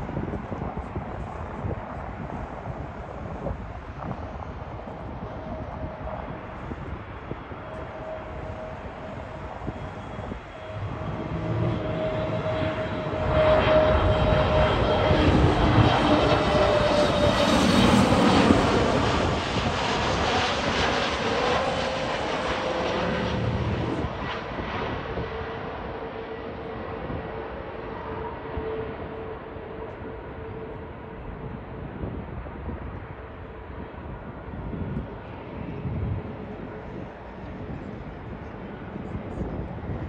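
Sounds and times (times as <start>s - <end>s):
jet airliner passing overhead: 0.0s - 40.0s.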